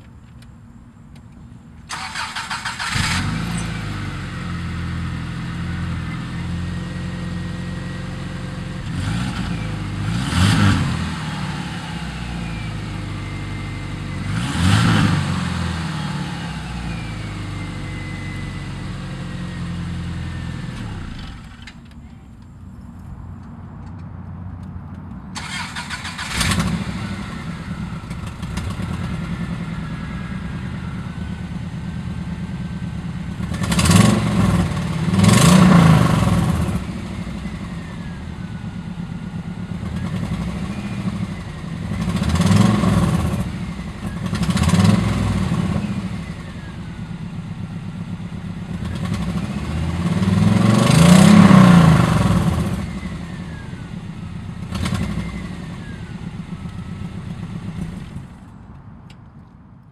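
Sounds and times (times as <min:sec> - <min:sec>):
car engine starting and idling: 0:00.0 - 0:59.9
engine revving: 0:01.9 - 0:21.7, 0:25.3 - 0:58.4.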